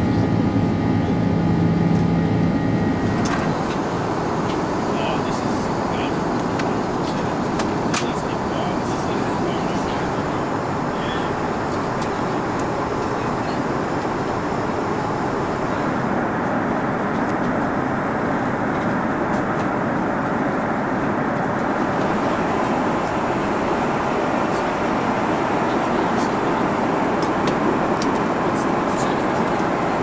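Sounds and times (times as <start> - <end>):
airplane cabin airflow and engine noise: 0.0 - 30.0.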